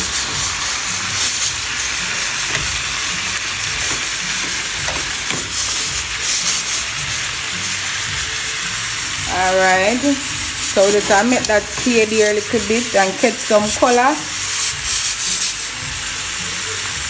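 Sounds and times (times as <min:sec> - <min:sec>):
spatula scraping pan: 0:00.0 - 0:15.8
chicken sizzling in hot oil: 0:00.0 - 0:17.0.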